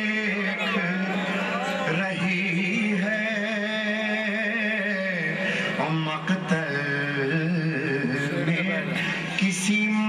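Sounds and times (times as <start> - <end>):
man singing an elegy: 0.0 - 10.0.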